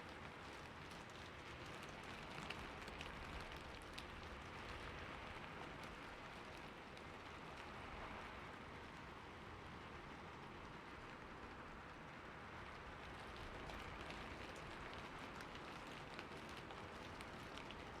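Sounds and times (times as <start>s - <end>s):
raindrops tapping on a surface: 0.0s - 18.0s.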